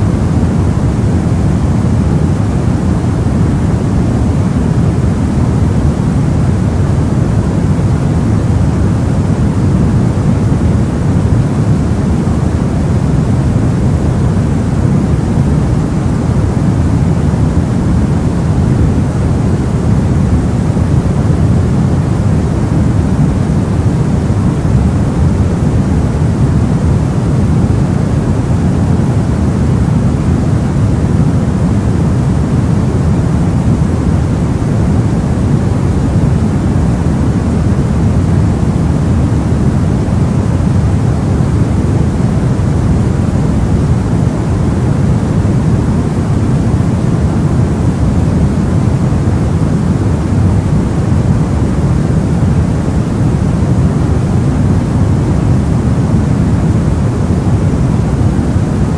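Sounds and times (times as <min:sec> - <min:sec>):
deep white noise hiss: 0:00.0 - 0:58.9.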